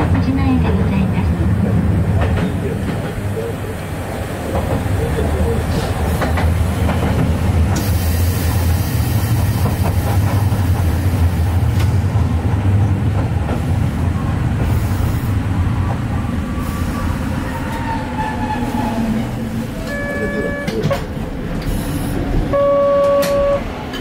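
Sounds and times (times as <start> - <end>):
rail clicks: 0.0 - 16.3, 17.5 - 24.0
faint tram whine: 0.0 - 24.0
tram motors and wheels rumbling: 0.0 - 24.0.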